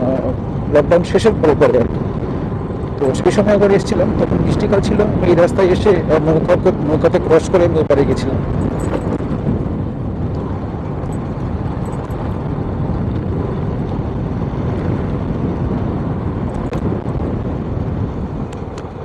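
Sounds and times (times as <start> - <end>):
motorcycle engine rumble: 0.0 - 19.0
wind noise: 0.0 - 19.0.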